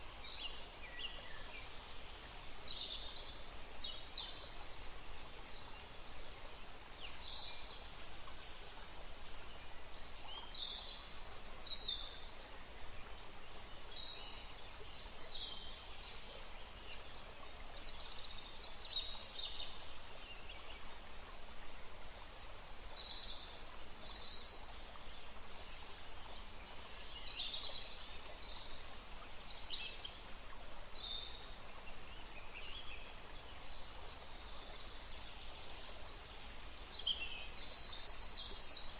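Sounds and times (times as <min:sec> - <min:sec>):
faint steady hiss: 0:00.0 - 0:38.9.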